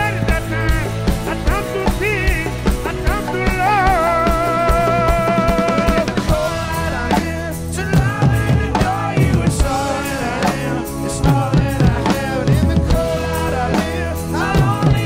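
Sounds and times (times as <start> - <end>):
drum kit and percussion: 0.0 - 15.0
person singing: 0.0 - 15.0.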